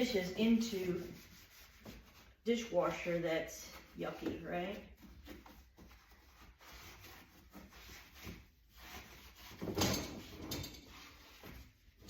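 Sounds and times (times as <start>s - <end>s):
gritty scrubbing: 0.0s - 11.8s.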